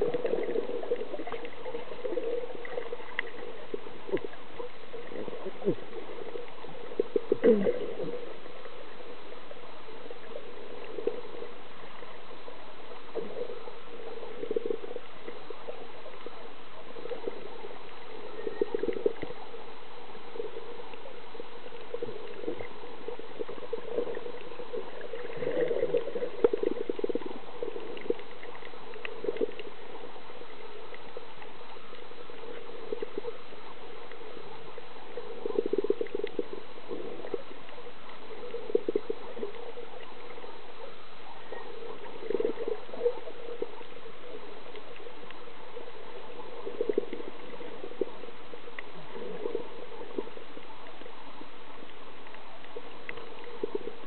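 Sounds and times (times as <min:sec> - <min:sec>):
muffled underwater hiss: 0:00.0 - 0:54.0
water bubbling and gurgling: 0:00.0 - 0:54.0.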